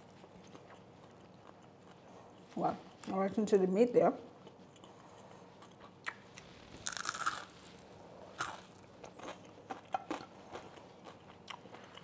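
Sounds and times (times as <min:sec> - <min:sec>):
crunching and chewing chicken: 0:00.0 - 0:03.1, 0:04.3 - 0:12.0.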